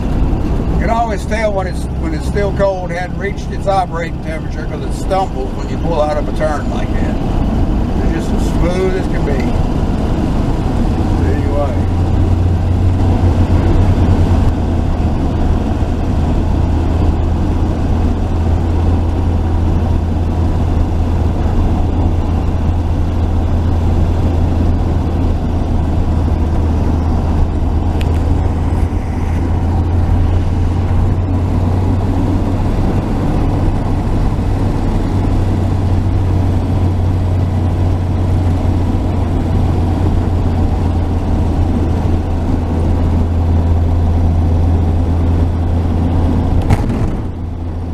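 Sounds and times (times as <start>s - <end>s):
road noise: 0.0s - 47.9s
truck engine running: 0.0s - 47.9s.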